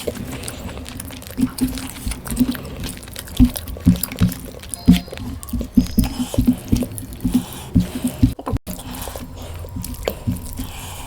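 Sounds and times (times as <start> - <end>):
wet chewing and lip-smacking: 0.0 - 11.0.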